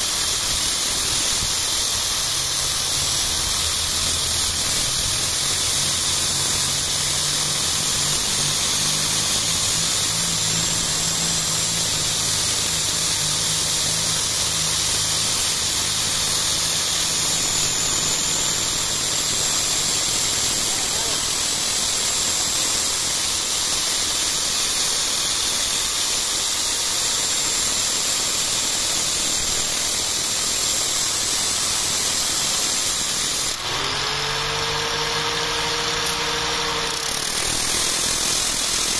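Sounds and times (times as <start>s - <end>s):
angle grinder grinding metal rod: 0.0s - 38.9s.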